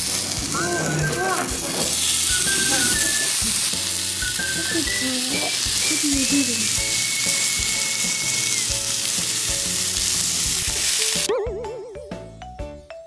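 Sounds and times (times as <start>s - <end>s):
meat sizzling on grill: 0.0s - 11.3s
soft background tune: 0.1s - 13.0s.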